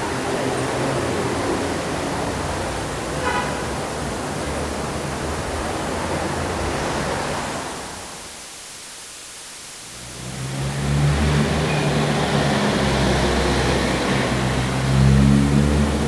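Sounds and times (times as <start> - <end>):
road traffic roar: 0.0 - 7.7, 9.9 - 16.0.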